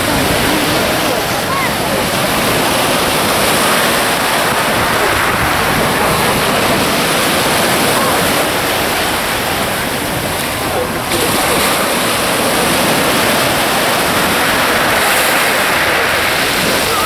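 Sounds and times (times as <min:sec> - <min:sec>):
choppy sea water: 0:00.0 - 0:17.0
wind rushing: 0:00.0 - 0:17.0.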